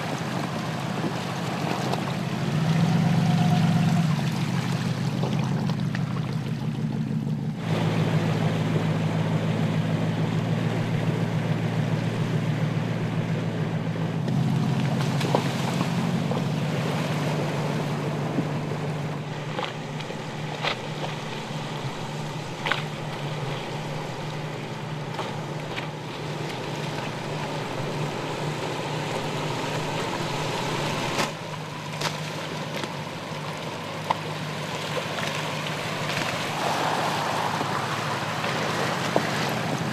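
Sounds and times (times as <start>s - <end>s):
car engine at low revs: 0.0s - 39.9s
tyres and water splashing: 0.0s - 39.9s.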